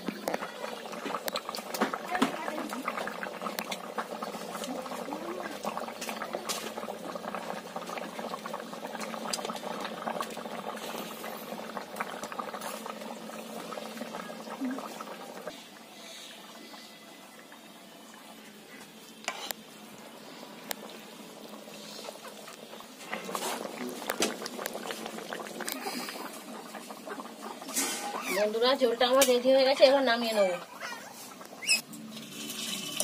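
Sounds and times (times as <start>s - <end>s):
curry boiling in a pan: 0.0s - 33.0s.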